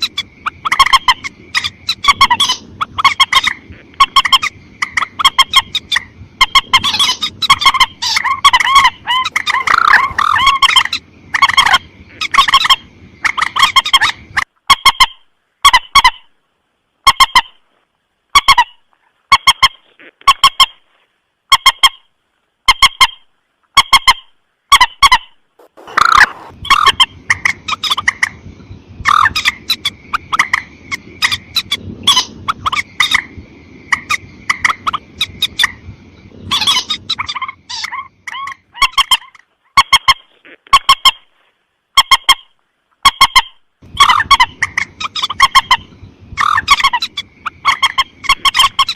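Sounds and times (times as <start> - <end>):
rail bird honking calls: 0.0 - 16.3, 23.8 - 41.2, 42.0 - 48.9.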